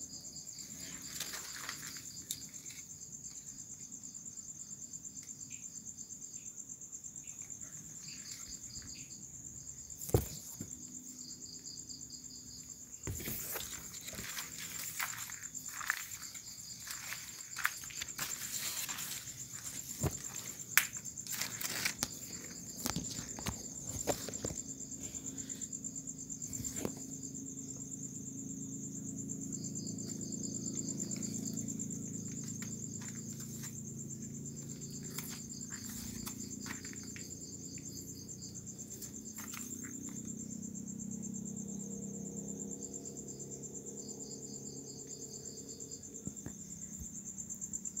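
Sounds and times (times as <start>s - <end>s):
crickets trilling: 0.0s - 48.0s
insect chirping in pulsed runs: 0.0s - 48.0s.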